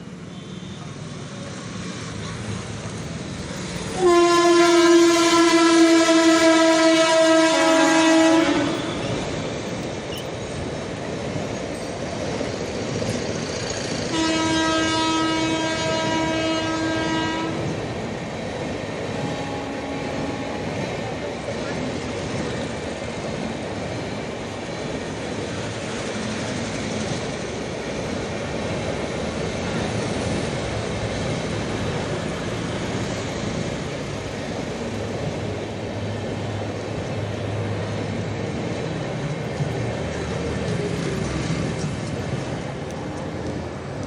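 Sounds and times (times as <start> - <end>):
train passing at speed: 0.0 - 44.0.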